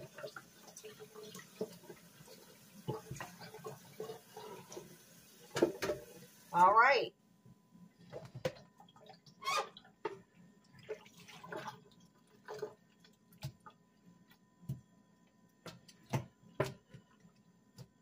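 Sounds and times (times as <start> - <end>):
water dripping and splashing: 0.0 - 6.5, 8.0 - 18.0.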